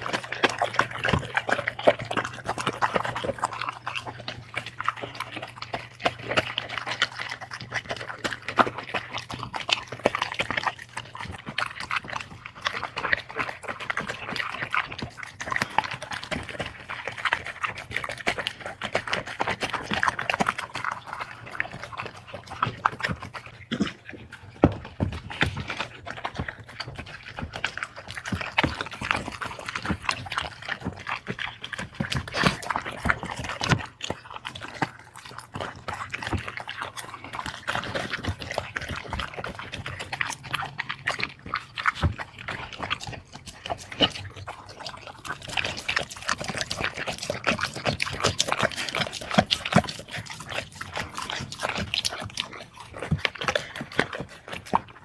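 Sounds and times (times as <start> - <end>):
dog chewing and smacking: 0.0 - 55.0.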